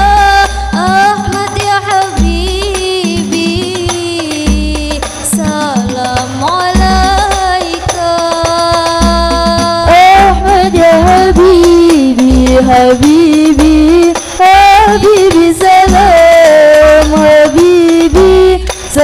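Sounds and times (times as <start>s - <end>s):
women singing through speakers: 0.0s - 19.0s.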